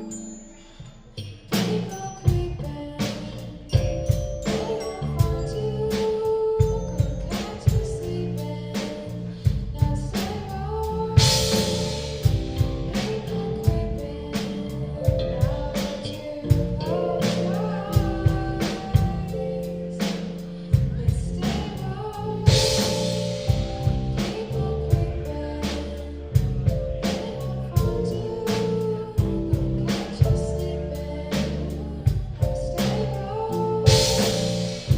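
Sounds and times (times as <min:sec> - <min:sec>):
person singing: 0:00.0 - 0:34.9
live rock band playing: 0:01.5 - 0:34.9.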